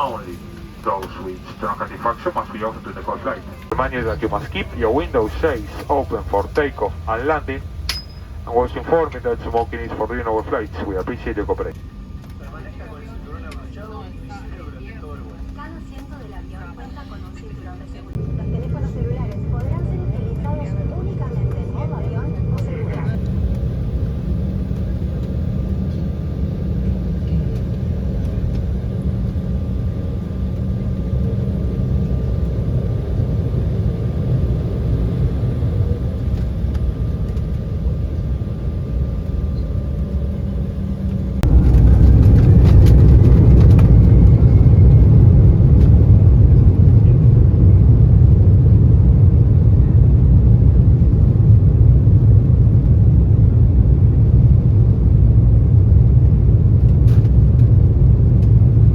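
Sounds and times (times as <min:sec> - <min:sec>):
faint engine whine: 0:00.0 - 0:58.9
jet cabin rumble: 0:00.0 - 0:58.9.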